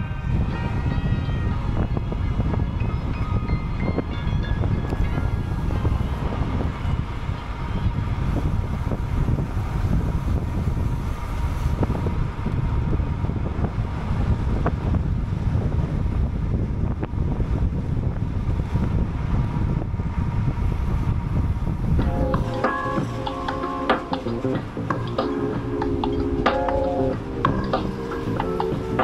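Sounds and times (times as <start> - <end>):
road traffic: 0.0 - 29.0
wind rushing over microphone: 0.0 - 29.0.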